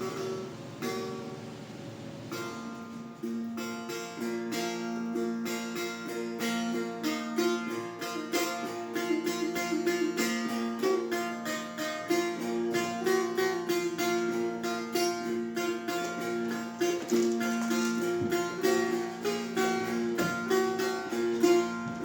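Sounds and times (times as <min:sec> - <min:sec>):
plucked lute melody: 0:00.0 - 0:22.0.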